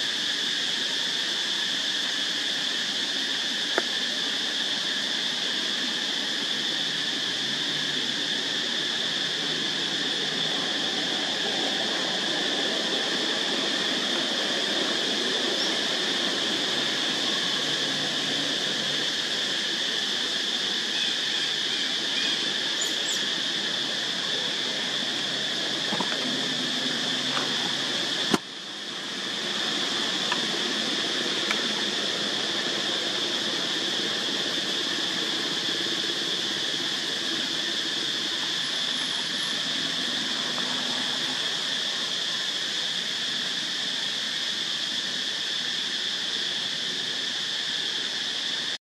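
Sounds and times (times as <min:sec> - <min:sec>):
high-pitched insect chorus: 0:00.0 - 0:48.8.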